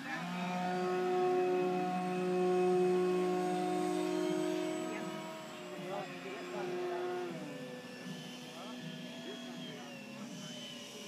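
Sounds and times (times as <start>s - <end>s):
model plane motor whine: 0.0s - 11.0s.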